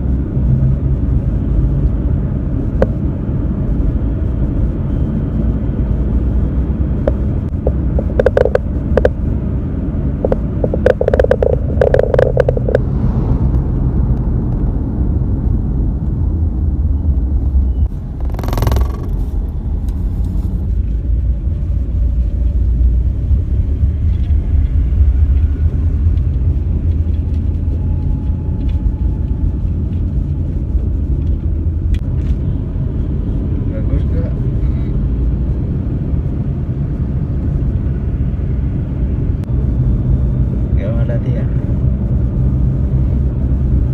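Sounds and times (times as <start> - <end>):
car rumbling: 0.0 - 43.9.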